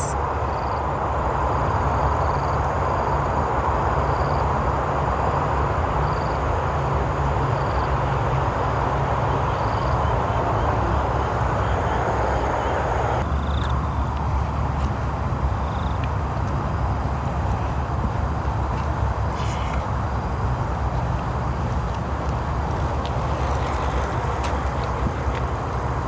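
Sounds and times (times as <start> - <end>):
outdoor rumble and hiss: 0.0 - 26.0.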